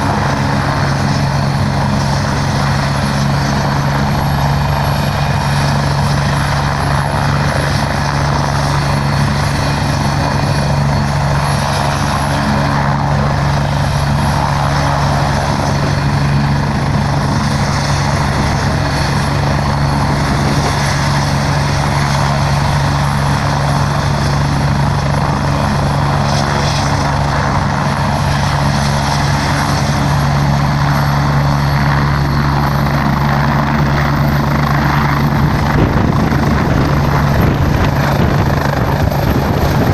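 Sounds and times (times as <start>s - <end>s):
helicopter turbine and rotor: 0.0s - 39.9s
high turbine whine: 0.0s - 39.9s.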